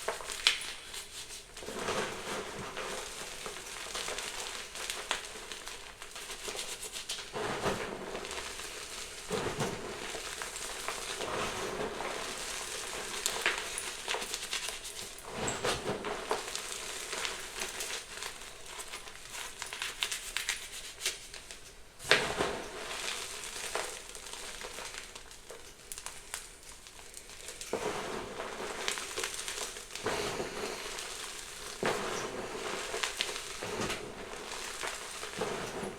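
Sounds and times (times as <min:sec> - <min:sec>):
chalk being crushed by hand: 0:00.0 - 0:35.9.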